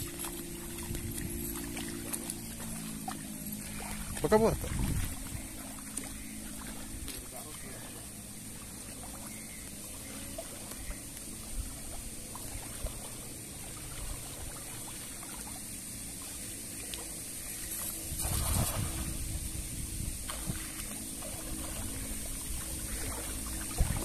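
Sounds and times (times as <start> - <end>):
river water trickling: 0.0 - 24.0.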